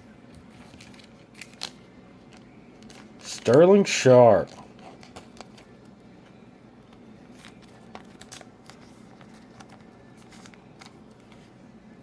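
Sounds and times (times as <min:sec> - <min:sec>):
low steady hum: 0:00.0 - 0:12.0
trading cards being handled: 0:00.3 - 0:03.7, 0:04.3 - 0:11.6.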